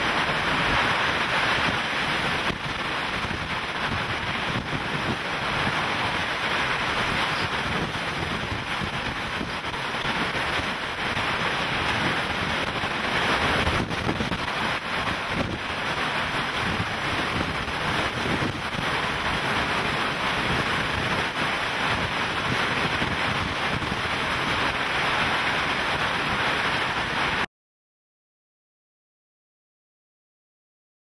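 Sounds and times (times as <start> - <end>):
driving rain: 0.0 - 27.5
strong wind gusting against microphone: 0.0 - 27.5.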